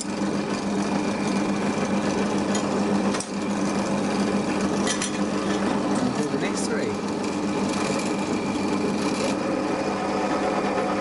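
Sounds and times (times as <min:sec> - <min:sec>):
drill press motor hum: 0:00.0 - 0:11.0.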